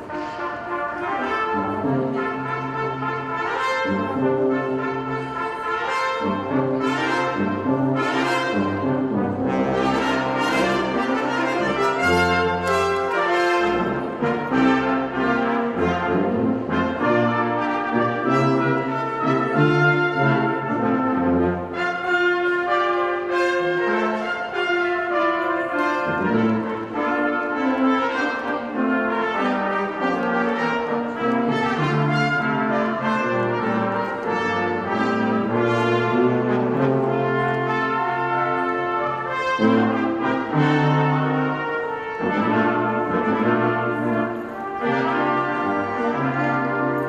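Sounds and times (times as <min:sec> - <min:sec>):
brass horns playing chords: 0:00.0 - 0:47.0.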